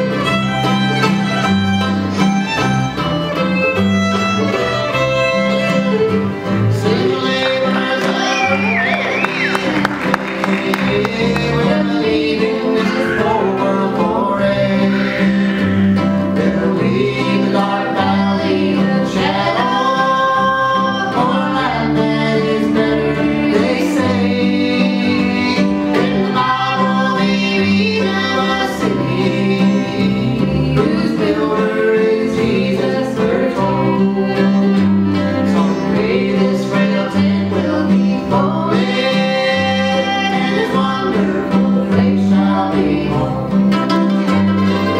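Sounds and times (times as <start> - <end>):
bass: 0.0 - 44.9
fiddle: 0.0 - 44.9
guitar: 0.0 - 44.9.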